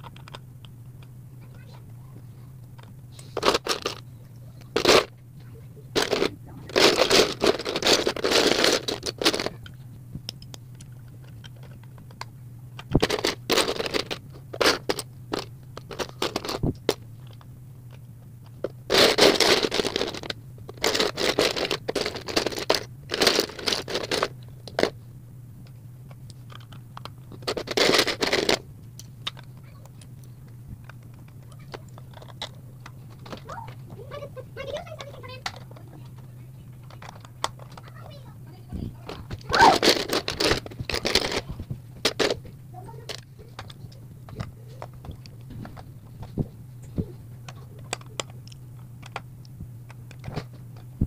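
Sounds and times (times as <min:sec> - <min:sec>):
plastic bricks rattling and clicking: 0:00.0 - 0:00.4, 0:02.8 - 0:04.0, 0:04.6 - 0:05.1, 0:06.0 - 0:25.0, 0:25.6 - 0:49.3, 0:49.9 - 0:50.9
steady low hum: 0:00.0 - 0:51.0.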